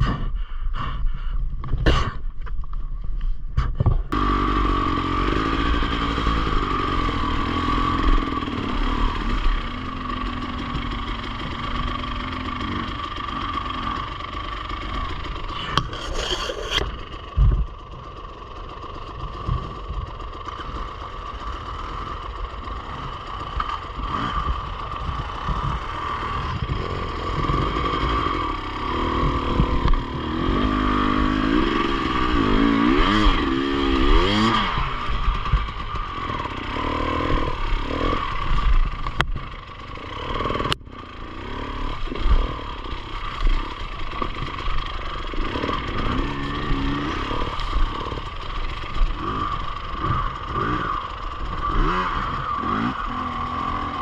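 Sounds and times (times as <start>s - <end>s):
motorcycle engine starting and running: 0.0s - 54.0s.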